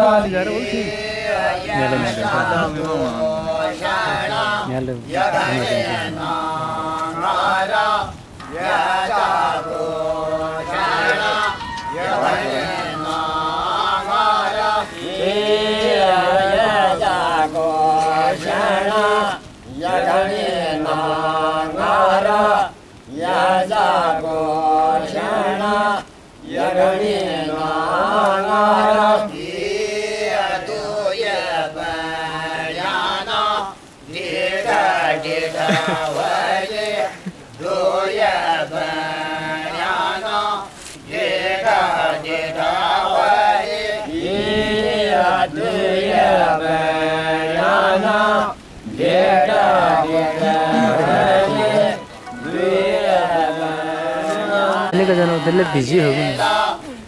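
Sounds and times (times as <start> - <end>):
voices chanting a hymn: 0.0 - 57.0.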